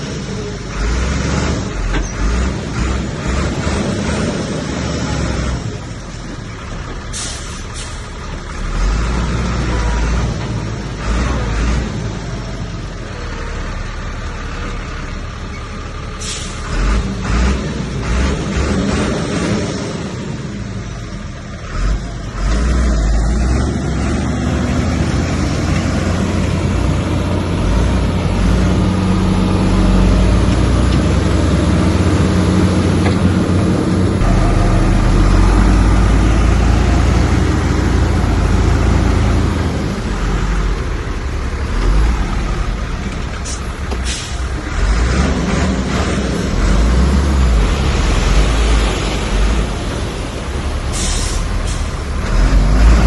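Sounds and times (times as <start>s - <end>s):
heavy diesel engine droning: 0.0s - 53.0s.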